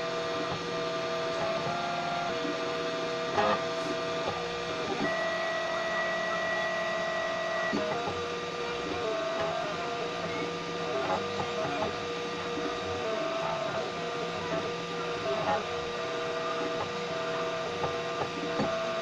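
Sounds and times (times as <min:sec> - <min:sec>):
stepper motors whining: 0:00.0 - 0:19.0.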